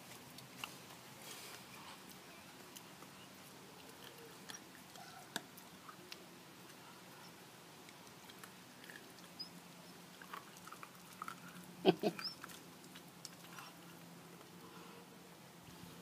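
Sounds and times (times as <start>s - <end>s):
puppy chewing crunches: 0.0s - 14.8s.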